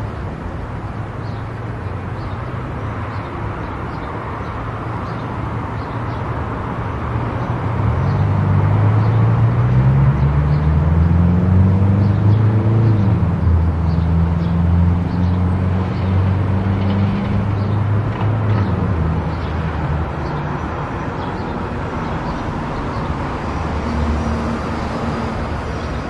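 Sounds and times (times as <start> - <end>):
road and tyre noise: 0.0 - 26.0.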